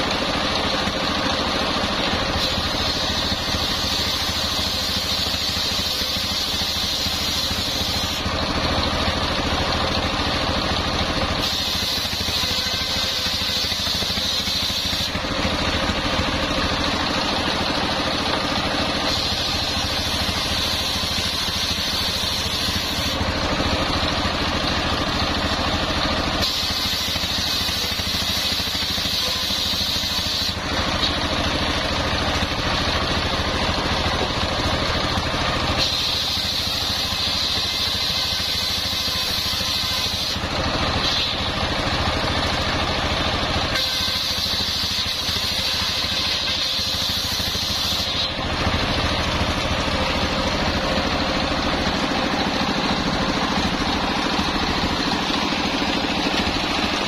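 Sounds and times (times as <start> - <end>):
circular saw cutting timber: 0.0 - 57.0
diesel engine running: 0.0 - 57.0.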